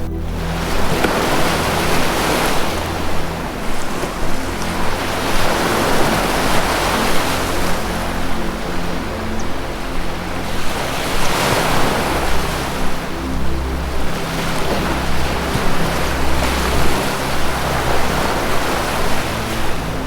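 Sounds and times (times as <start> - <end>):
low sustained music tones: 0.0 - 20.0
ocean surf washing: 0.0 - 20.0.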